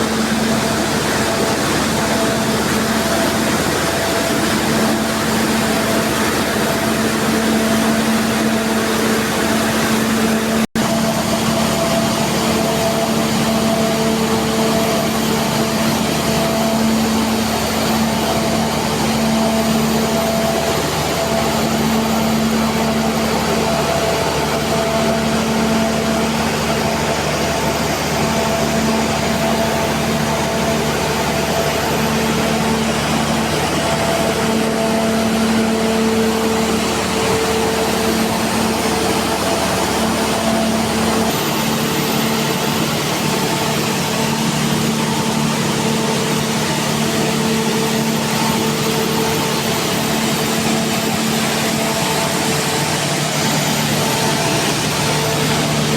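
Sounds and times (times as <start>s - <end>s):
machinery hum: 0.0s - 55.9s
noisy whir: 0.0s - 55.9s.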